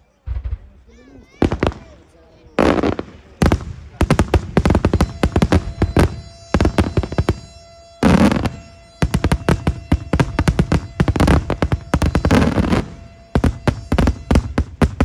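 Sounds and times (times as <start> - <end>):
fireworks bangs: 0.1 - 15.0.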